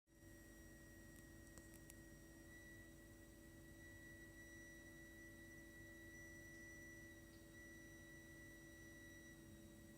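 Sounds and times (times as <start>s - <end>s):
faint low hum: 0.1s - 9.9s
high-pitched whistling from heating pipes: 0.2s - 9.9s.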